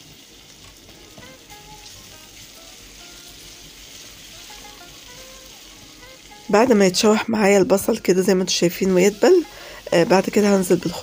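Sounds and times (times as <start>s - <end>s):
faint background music: 0.0s - 11.0s
onions sizzling in a pan: 0.0s - 11.0s.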